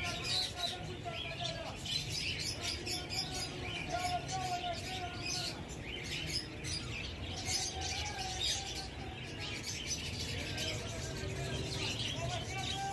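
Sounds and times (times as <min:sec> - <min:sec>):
parakeet chicks chirping: 0:00.0 - 0:12.9.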